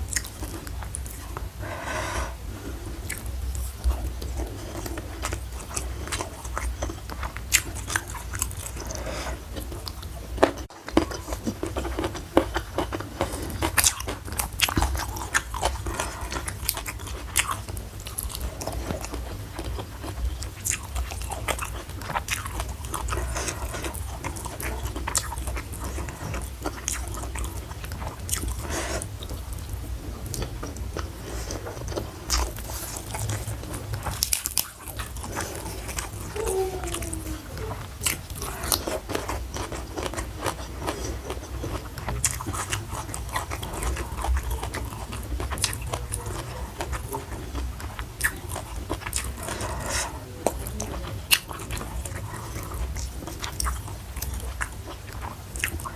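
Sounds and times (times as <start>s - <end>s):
chewing with crisp crunches: 0.0s - 55.9s.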